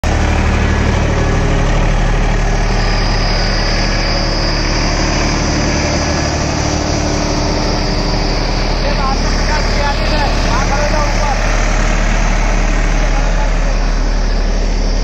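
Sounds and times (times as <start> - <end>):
tractor diesel engines idling: 0.0 - 15.0.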